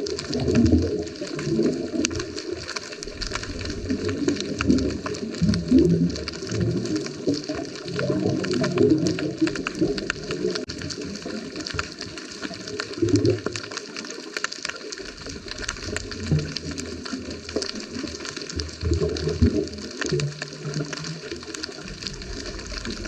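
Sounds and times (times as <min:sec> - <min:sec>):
crackle of small clicks: 0:00.0 - 0:23.0
diver's bubbles gurgling underwater: 0:00.0 - 0:23.0.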